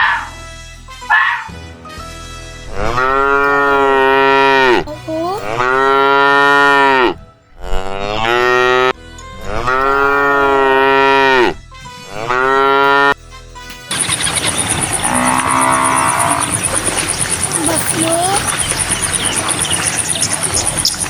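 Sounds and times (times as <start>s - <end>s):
cattle mooing: 2.7s - 13.2s, 14.3s - 21.0s.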